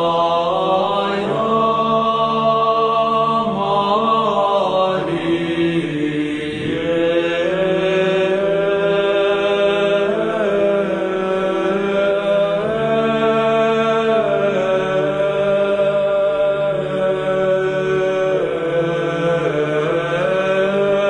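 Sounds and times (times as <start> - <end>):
steady low drone: 0.0 - 21.0
voices chanting long notes: 0.0 - 21.0.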